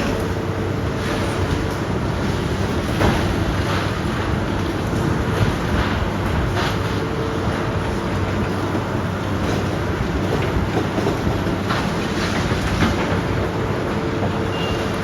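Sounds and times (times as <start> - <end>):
heavy demolition machinery running: 0.0 - 15.0.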